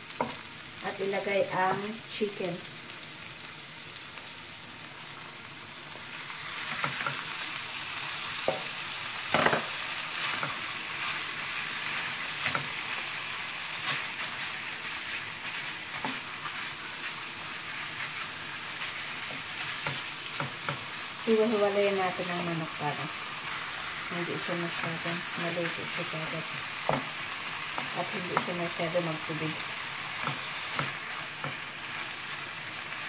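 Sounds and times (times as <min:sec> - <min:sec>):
chicken sizzling in a wok: 0:00.0 - 0:33.0.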